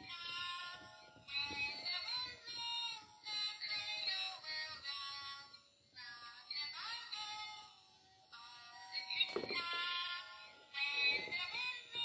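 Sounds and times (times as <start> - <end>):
toy playing children's song: 0.0 - 12.0.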